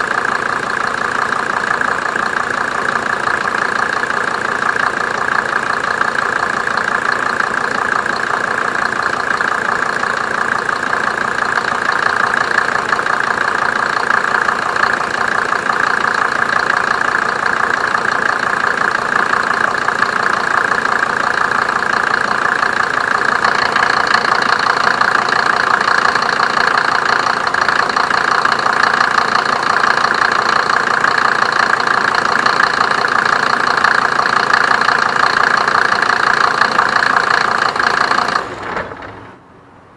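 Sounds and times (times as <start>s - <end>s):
diesel engine idling with knock: 0.0s - 39.9s.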